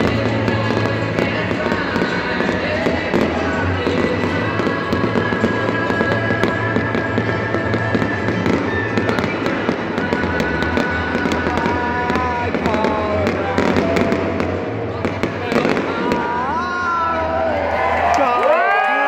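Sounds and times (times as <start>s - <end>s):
fireworks bangs and crackles: 0.0s - 17.5s.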